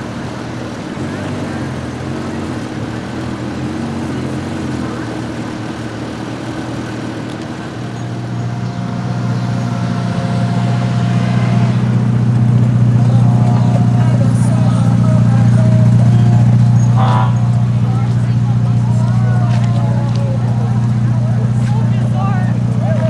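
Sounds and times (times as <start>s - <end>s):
car engine running: 0.0s - 23.0s
street traffic: 0.0s - 23.0s.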